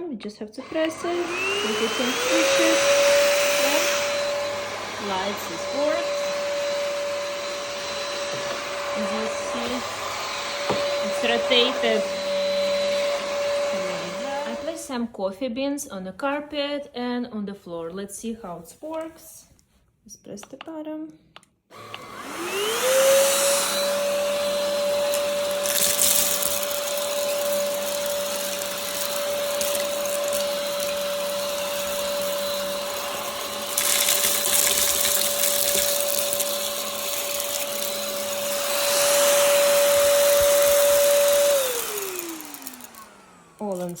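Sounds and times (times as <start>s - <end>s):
vacuum sucking up coffee beans: 0.6s - 14.8s, 21.8s - 44.0s
vacuum cleaner motor whine: 0.6s - 15.0s, 21.7s - 44.0s.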